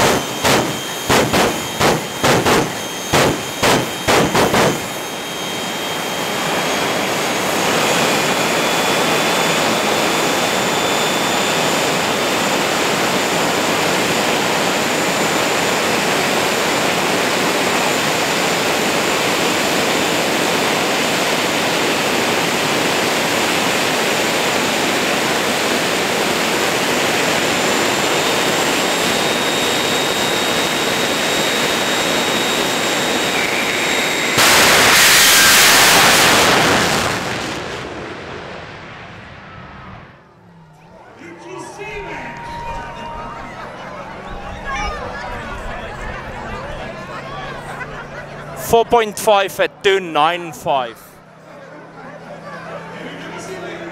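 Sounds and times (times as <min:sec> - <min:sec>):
jet turbine engine roaring: 0:00.0 - 0:53.9.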